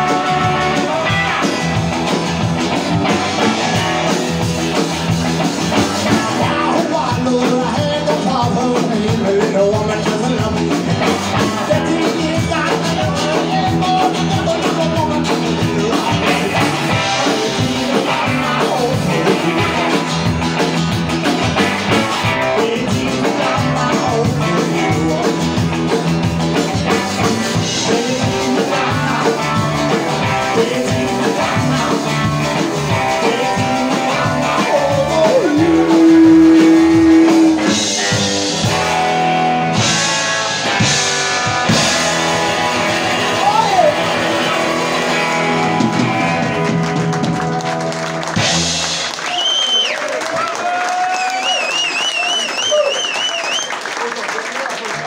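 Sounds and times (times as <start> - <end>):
acoustic guitar: 0.0 - 49.1
upright double bass: 0.0 - 49.1
electric guitar: 0.0 - 50.6
drums: 0.0 - 55.0.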